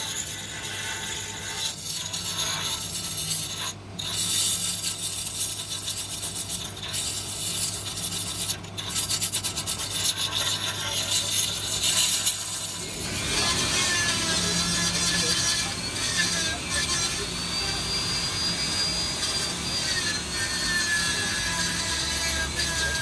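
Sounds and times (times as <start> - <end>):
angle grinder grinding metal: 0.0 - 23.0.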